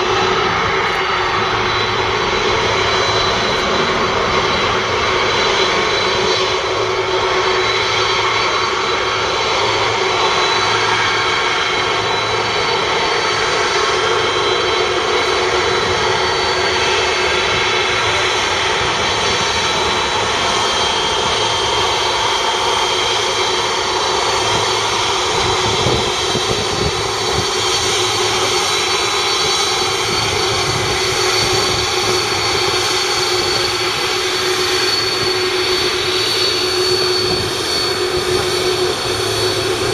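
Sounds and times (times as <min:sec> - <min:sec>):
jet engine whine and roar: 0:00.0 - 0:39.9.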